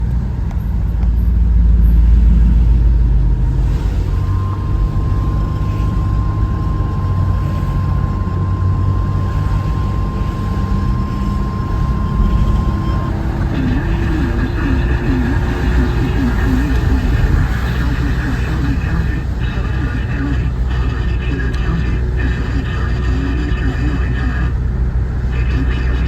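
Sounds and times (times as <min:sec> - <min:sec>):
car road and engine rumble: 0:00.0 - 0:26.0
emergency alert attention tone: 0:03.6 - 0:24.6.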